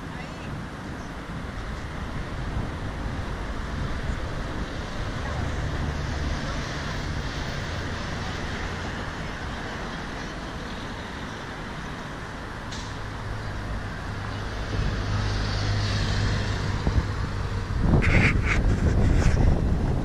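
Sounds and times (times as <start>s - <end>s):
road noise hum: 0.0s - 20.0s.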